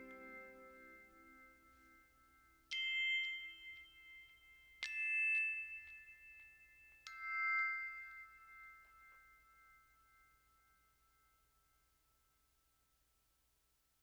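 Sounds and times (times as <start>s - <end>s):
ringing bell-like chimes: 0.0s - 11.6s.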